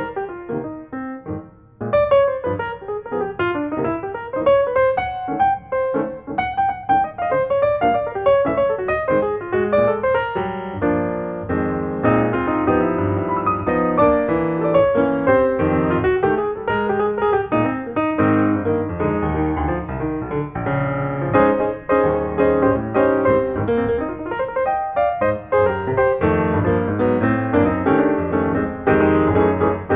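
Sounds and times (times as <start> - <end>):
piano music: 0.0 - 29.9.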